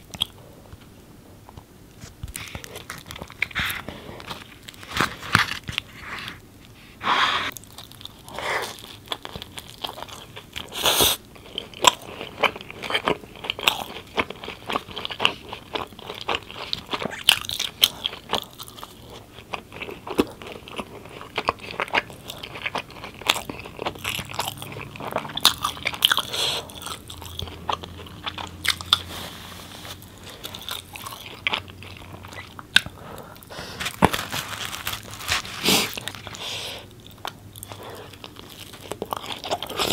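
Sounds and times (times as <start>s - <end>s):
chewing and crunching: 0.0s - 0.5s, 2.3s - 6.4s, 7.5s - 39.9s.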